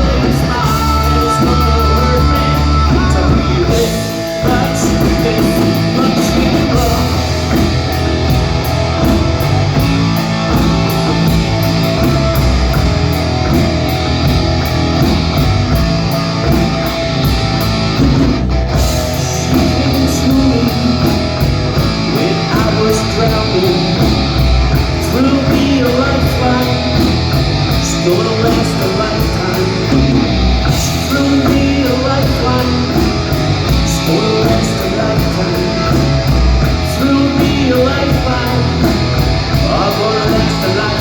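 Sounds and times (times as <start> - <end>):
rock band playing: 0.0 - 41.0.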